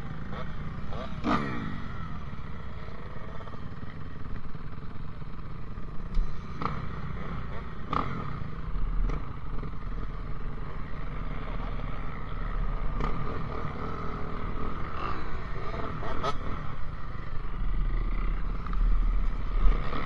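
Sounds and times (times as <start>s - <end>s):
dirt bike engines idling: 0.0s - 20.0s.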